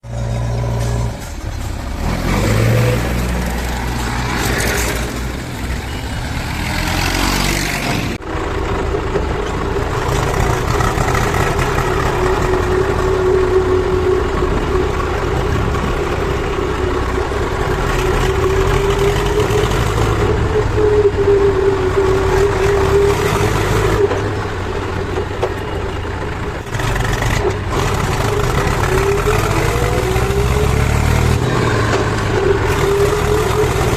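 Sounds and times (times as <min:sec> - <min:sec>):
diesel engine working with whine: 0:00.0 - 0:33.9.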